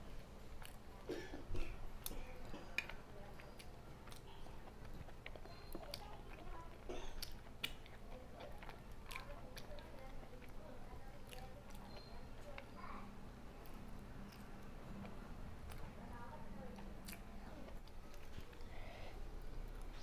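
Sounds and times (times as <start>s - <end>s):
close chewing: 0.0s - 1.1s, 1.7s - 20.0s.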